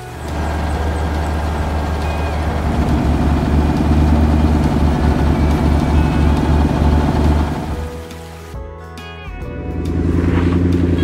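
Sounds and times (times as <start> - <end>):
farm vehicle engine rumbling: 0.0 - 8.4, 9.7 - 11.0.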